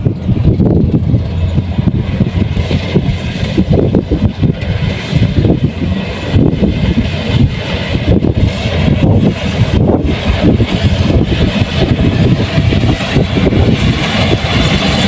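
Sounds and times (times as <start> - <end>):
combine harvester engine rumble: 0.0 - 15.0.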